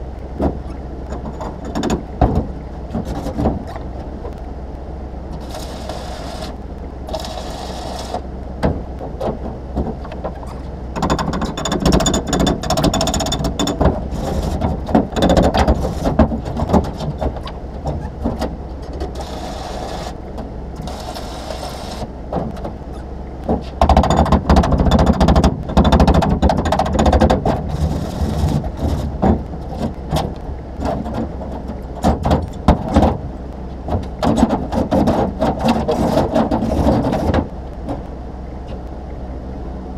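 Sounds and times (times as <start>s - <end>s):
low hum: 0.0s - 39.9s.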